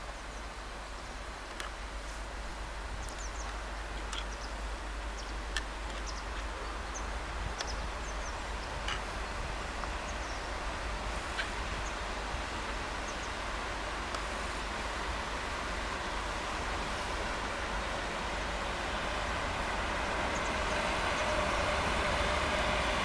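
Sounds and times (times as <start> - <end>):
steady rushing hiss: 0.0 - 23.0.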